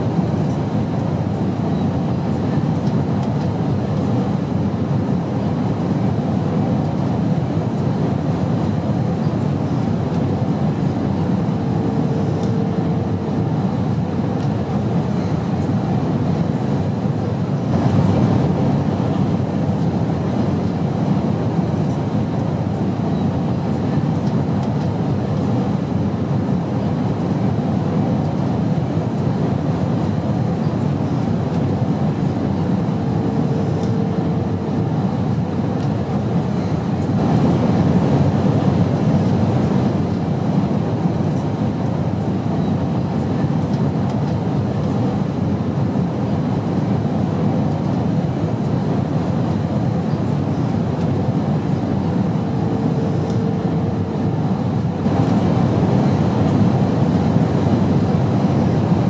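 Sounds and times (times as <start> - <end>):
airplane rumbling drone: 0.0 - 59.0.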